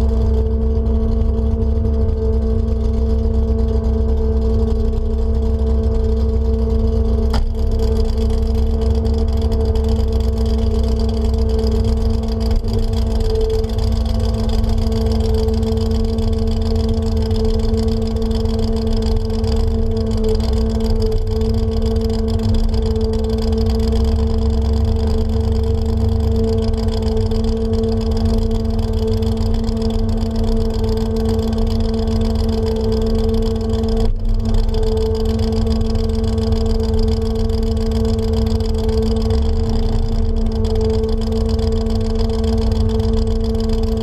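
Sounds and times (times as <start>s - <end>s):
pickup engine running: 0.0s - 44.0s.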